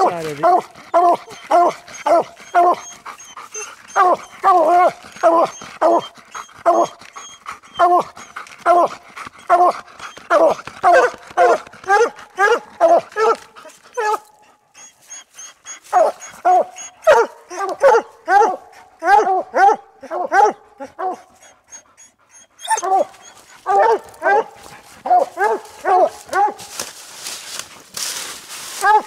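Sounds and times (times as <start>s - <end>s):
hounds barking: 0.0s - 7.0s, 7.8s - 14.3s, 15.8s - 21.5s, 22.5s - 29.0s.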